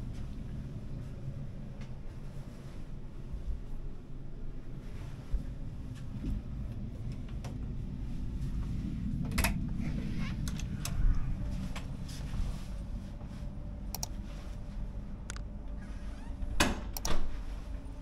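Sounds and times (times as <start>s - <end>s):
low ship interior rumble: 0.0s - 18.0s.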